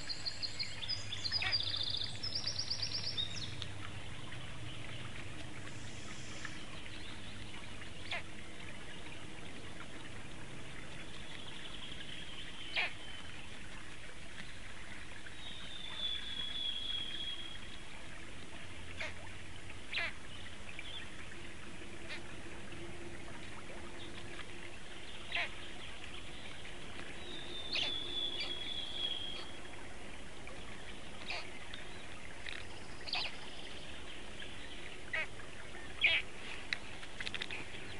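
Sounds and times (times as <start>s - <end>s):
steady background hiss: 0.0s - 37.9s.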